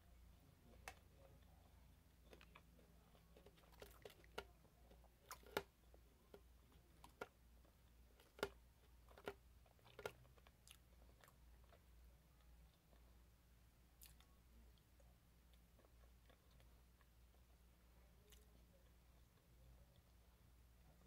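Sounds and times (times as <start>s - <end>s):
mouth chewing with wet clicks: 0.6s - 13.2s, 14.0s - 17.6s, 18.2s - 20.2s.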